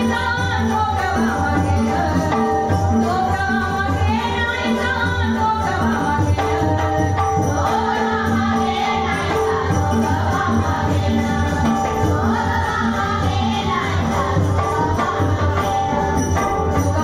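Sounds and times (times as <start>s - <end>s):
jingling percussion: 0.0s - 17.0s
women singing: 0.0s - 17.0s.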